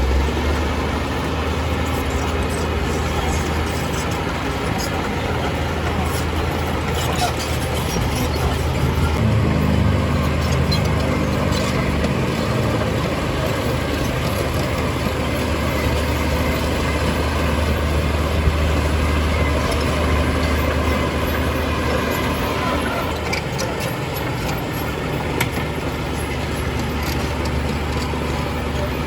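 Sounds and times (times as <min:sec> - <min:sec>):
heavy diesel machinery engine hum: 0:00.0 - 0:29.0.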